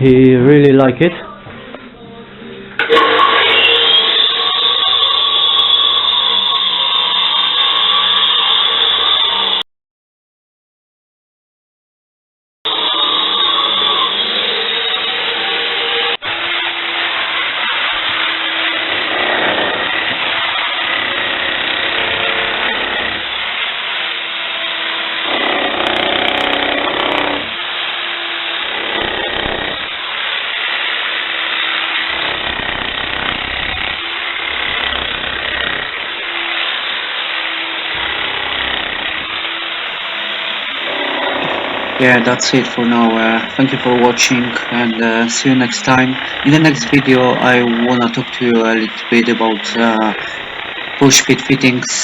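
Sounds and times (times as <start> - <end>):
power tool cutting masonry: 2.8 - 9.6, 12.7 - 52.0.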